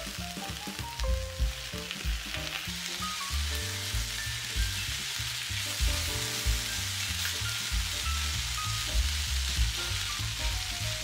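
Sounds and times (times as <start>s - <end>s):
background music with bass line: 0.0s - 11.0s
food sizzling in frying pan: 0.0s - 11.0s.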